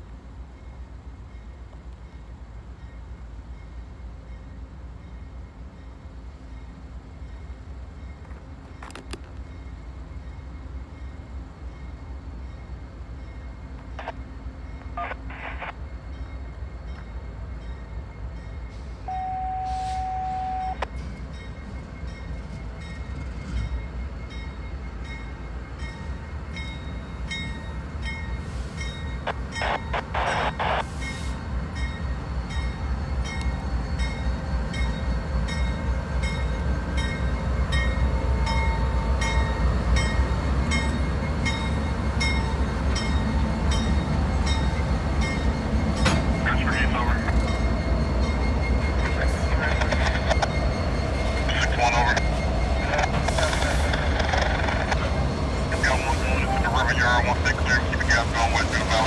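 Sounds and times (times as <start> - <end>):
diesel locomotives rumbling: 0.0 - 59.0.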